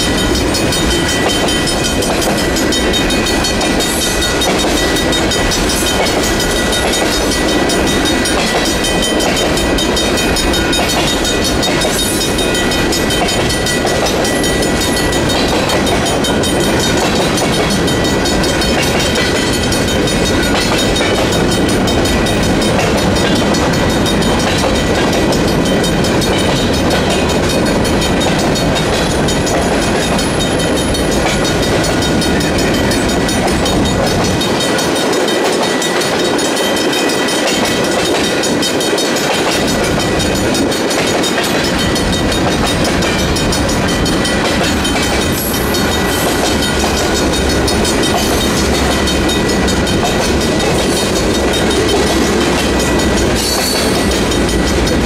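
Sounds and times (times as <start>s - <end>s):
crossing bells ringing: 0.0s - 55.0s
train wheels rumbling on rails: 0.0s - 55.0s.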